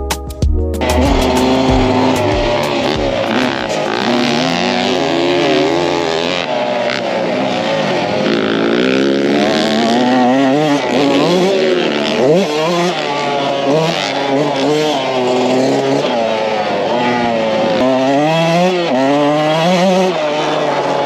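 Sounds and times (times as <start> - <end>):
dirt bike engine revving: 0.8 - 21.0.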